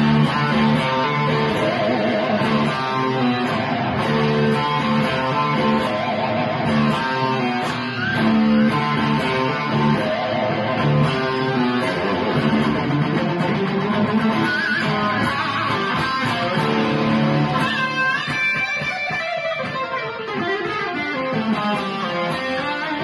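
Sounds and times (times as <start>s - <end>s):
electric guitar riffing: 0.0s - 23.0s.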